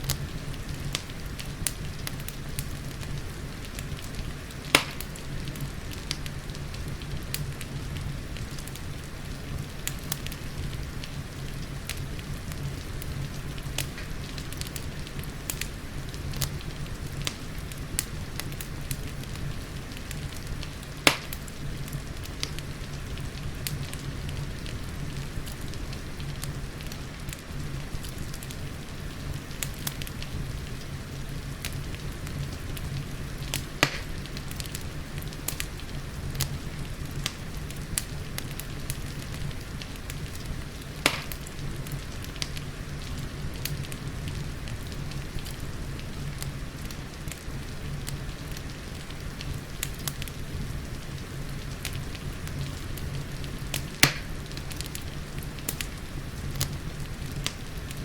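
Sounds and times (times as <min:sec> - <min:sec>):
rain rumble: 0:00.0 - 0:58.0
wood fire crackling: 0:00.0 - 0:58.0.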